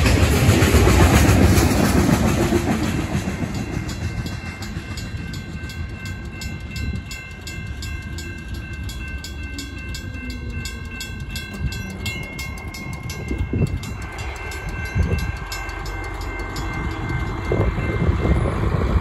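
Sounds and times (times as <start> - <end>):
mechanical crossing bell ringing: 3.2 - 18.8.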